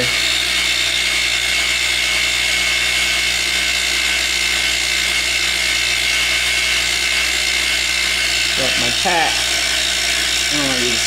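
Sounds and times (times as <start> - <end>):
milling machine motor whine: 0.0 - 11.0.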